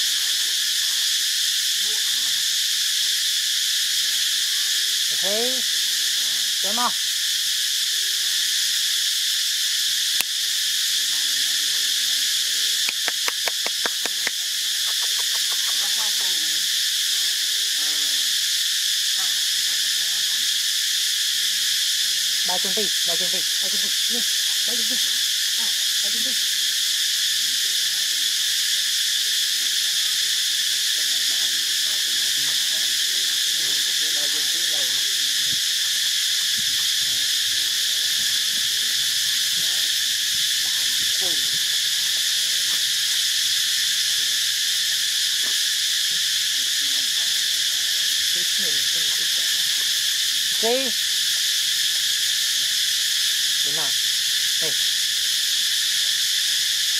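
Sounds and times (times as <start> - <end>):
high-pitched insect drone: 0.0 - 56.9.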